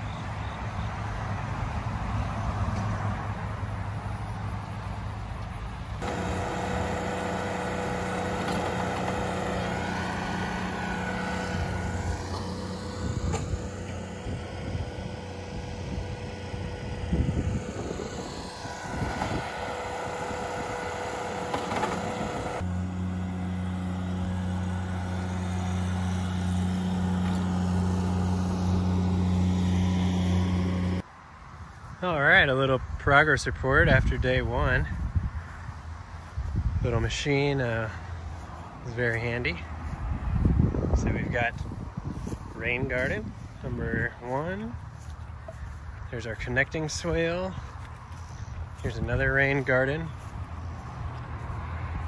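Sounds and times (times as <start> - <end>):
engine running: 0.0 - 31.8, 33.3 - 52.0.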